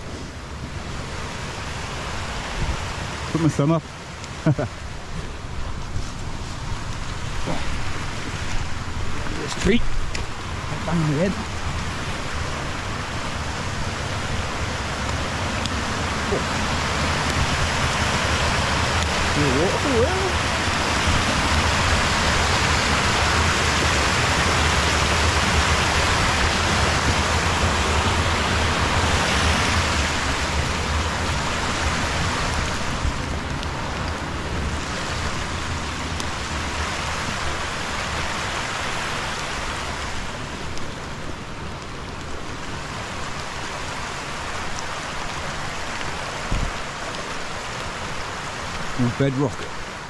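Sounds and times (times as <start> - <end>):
stream rushing: 0.0 - 50.0.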